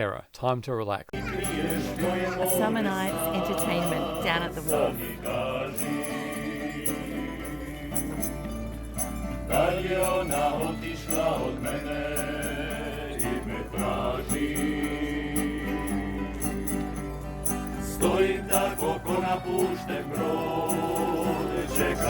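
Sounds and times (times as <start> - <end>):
group of people singing: 1.2 - 22.0
light percussion beat: 1.2 - 22.0
sustained instrumental chords: 1.2 - 22.0.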